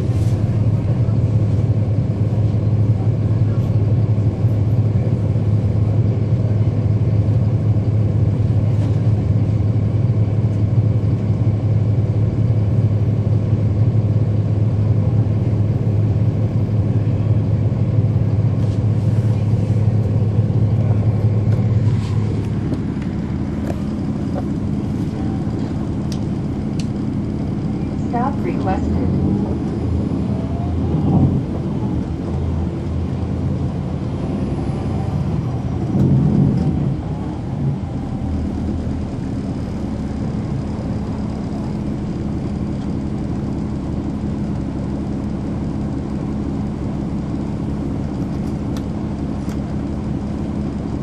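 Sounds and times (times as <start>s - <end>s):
bus diesel engine drone: 0.0s - 51.0s
bus rattles and clicks: 0.0s - 51.0s.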